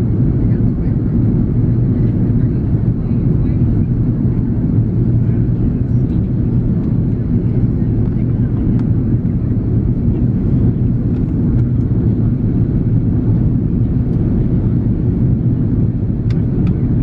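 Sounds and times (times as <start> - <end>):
airliner cabin roar: 0.0 - 17.0.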